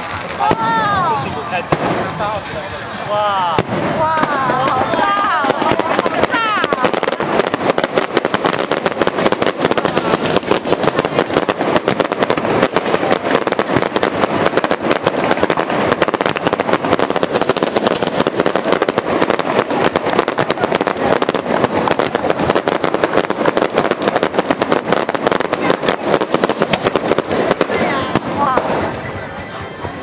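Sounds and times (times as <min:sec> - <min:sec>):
fireworks cracking and banging: 0:00.0 - 0:30.0.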